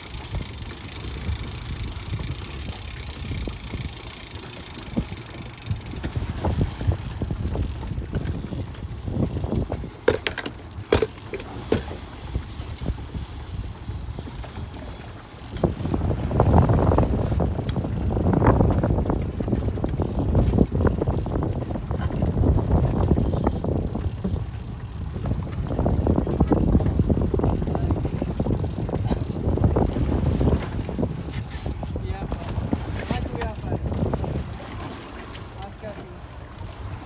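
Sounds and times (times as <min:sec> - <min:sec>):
fishing reel ratchet clicking: 0:00.0 - 0:14.7, 0:15.3 - 0:19.2, 0:19.8 - 0:35.8, 0:36.6 - 0:37.0
wind and boat rumble: 0:00.0 - 0:37.0.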